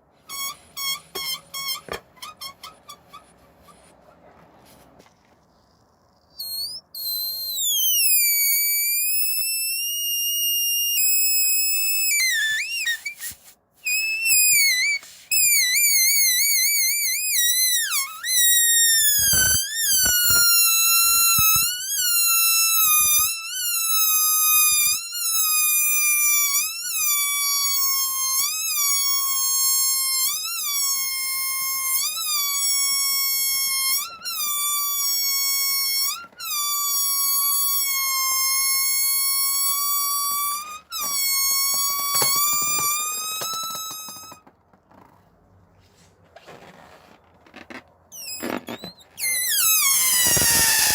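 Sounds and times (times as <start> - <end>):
balloon squealing air escaping: 0.0 - 3.9, 6.1 - 45.1, 46.5 - 50.9.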